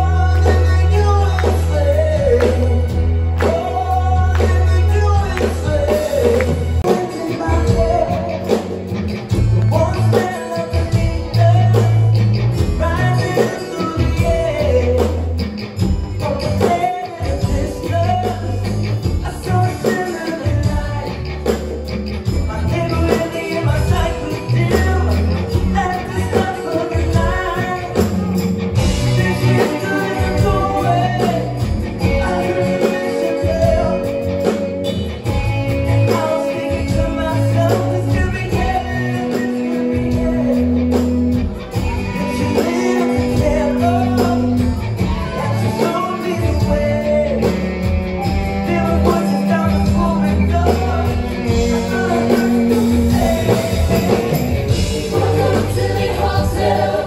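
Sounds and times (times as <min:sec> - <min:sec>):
live rock band playing: 0:00.0 - 0:57.0
man singing: 0:00.0 - 0:57.0.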